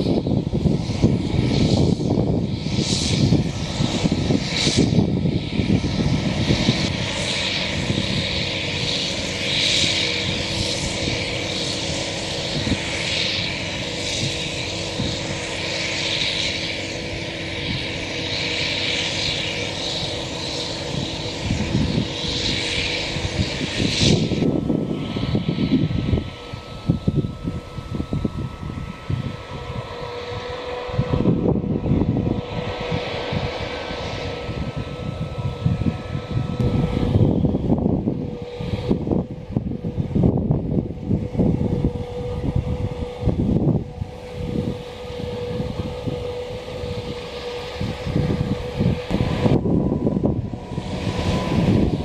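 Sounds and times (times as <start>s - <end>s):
forage harvester droning: 0.0s - 52.0s.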